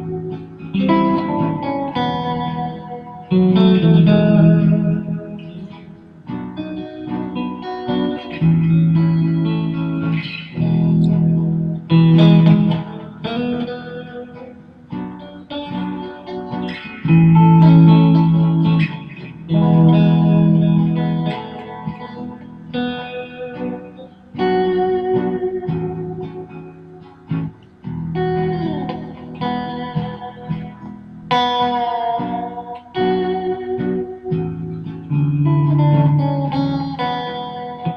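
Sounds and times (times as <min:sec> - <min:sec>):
electric guitar through amplifier: 0:00.0 - 0:37.9.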